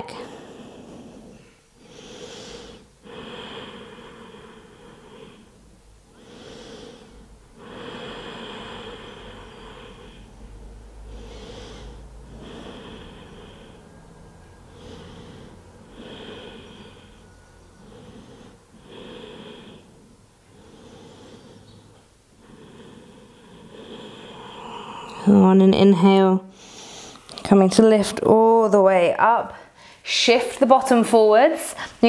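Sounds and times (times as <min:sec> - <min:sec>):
woman breathing slowly and deeply: 0:00.0 - 0:25.3, 0:26.5 - 0:27.4, 0:29.5 - 0:30.1.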